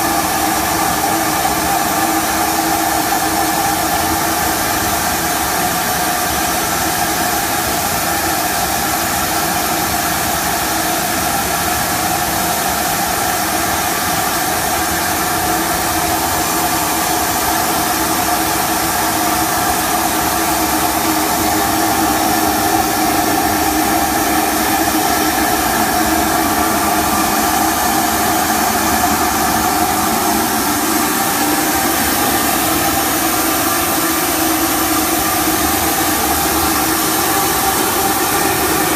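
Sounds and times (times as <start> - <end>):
industrial machinery hissing: 0.0 - 38.9
multi-pitched machine whine: 0.0 - 38.9.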